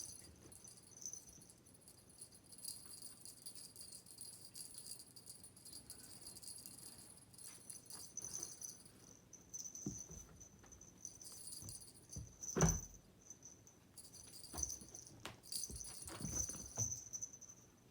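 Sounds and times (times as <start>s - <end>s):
small bell jingling: 0.0s - 17.8s.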